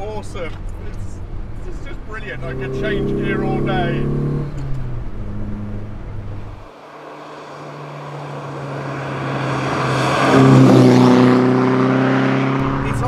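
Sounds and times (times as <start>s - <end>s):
car approaching: 0.0s - 13.0s
car engine from inside cabin: 0.7s - 6.7s, 7.4s - 13.0s.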